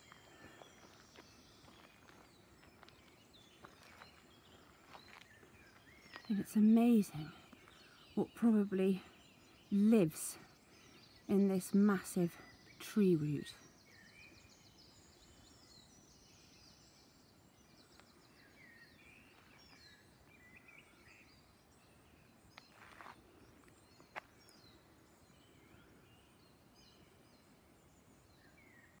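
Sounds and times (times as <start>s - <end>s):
small birds chirping and trilling: 0.0s - 29.0s.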